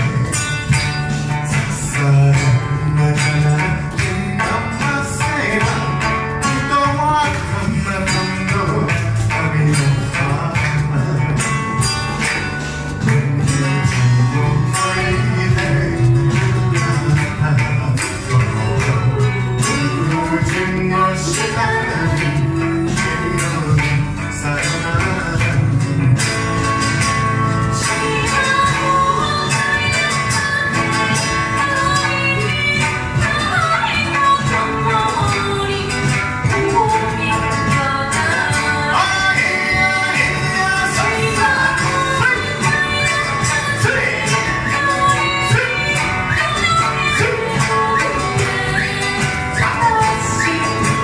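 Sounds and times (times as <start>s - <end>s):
person singing: 0.0s - 51.0s
plucked lute: 0.0s - 51.0s
strummed acoustic guitar: 0.0s - 51.0s.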